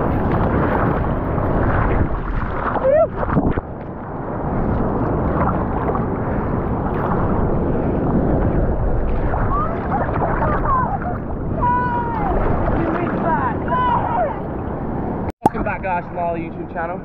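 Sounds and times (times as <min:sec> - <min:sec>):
seawater sloshing and splashing: 0:00.0 - 0:14.3.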